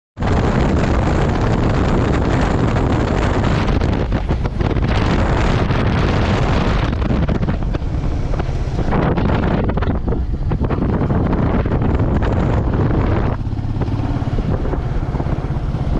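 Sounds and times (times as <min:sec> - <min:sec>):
motorcycle engine rumble: 0:00.2 - 0:15.9
wind buffeting microphone: 0:00.2 - 0:15.9.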